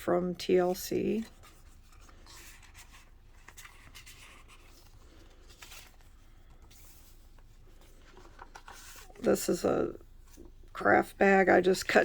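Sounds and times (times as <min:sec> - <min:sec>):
paper pages rustling: 0:01.1 - 0:10.9.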